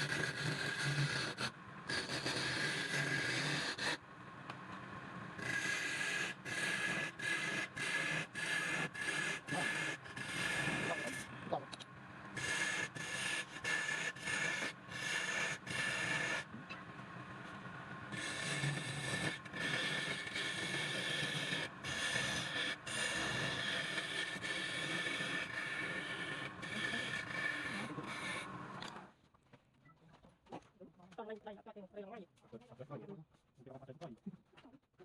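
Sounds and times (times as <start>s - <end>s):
power tool scraping wood: 0.0s - 4.0s, 4.7s - 29.1s.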